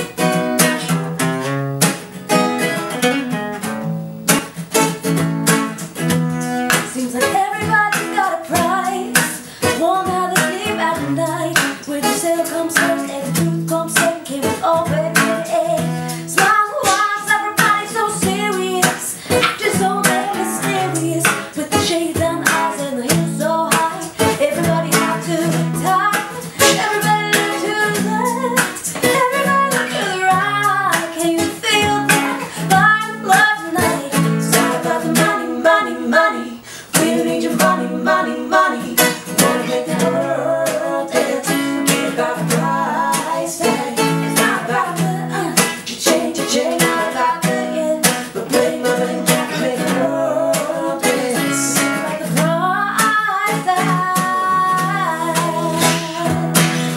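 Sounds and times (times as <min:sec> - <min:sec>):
strummed acoustic guitar: 0:00.0 - 0:56.9.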